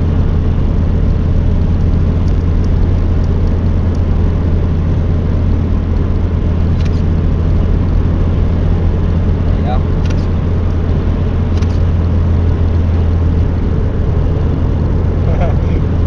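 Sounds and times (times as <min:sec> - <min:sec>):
engine and tyre hum: 0:00.0 - 0:16.0
wind and road hiss: 0:00.0 - 0:16.0.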